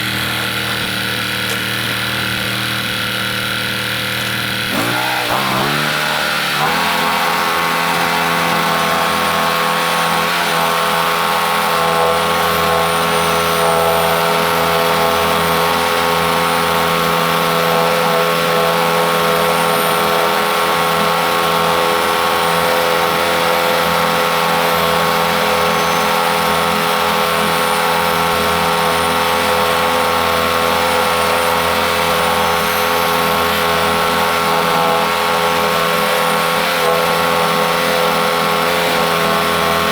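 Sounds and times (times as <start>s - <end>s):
band blade sawing log: 0.0s - 39.9s
gas engine running: 0.0s - 39.9s.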